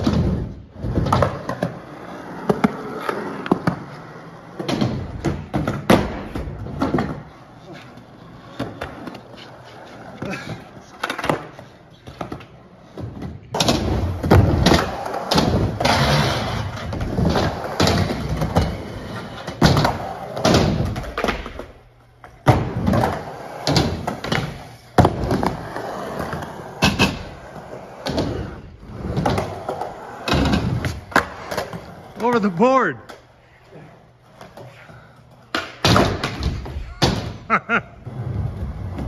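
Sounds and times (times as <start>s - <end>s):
skateboard wheels rolling on concrete: 0.0s - 39.0s.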